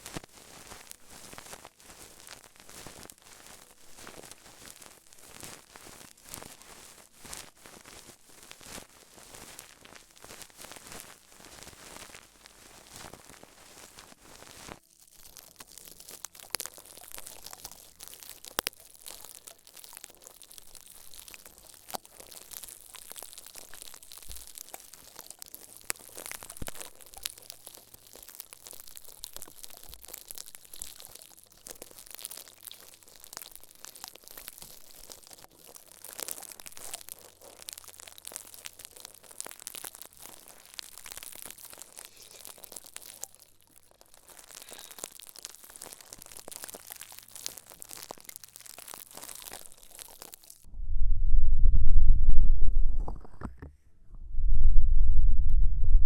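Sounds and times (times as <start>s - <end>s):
crinkling and crackling clicks: 0.0s - 50.7s, 52.3s - 54.2s.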